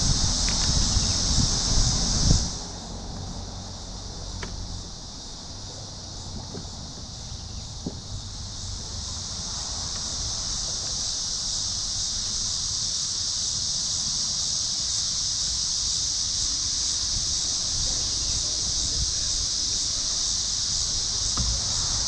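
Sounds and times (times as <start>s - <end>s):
wind rumbling on microphone: 0.0s - 12.8s, 15.4s - 22.0s
insects droning: 0.0s - 22.0s.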